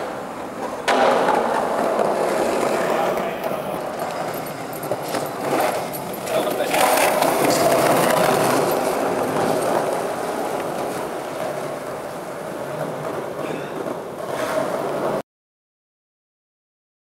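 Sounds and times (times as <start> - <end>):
skateboard wheels rumbling on concrete: 0.0 - 15.2.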